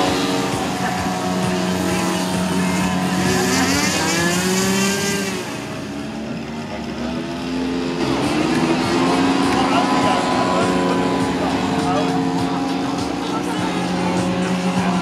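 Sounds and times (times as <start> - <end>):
model plane motor running: 0.0 - 15.0.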